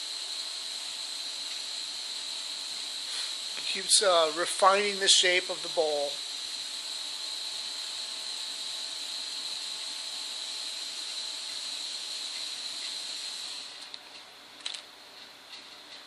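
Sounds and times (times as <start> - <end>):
pottery wheel wet hiss and whine: 0.0 - 16.0.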